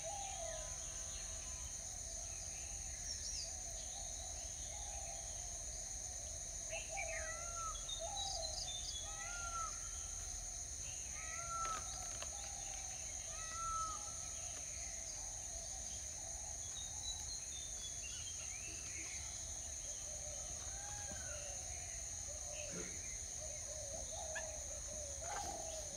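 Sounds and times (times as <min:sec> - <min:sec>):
high insect drone: 0:00.0 - 0:25.9.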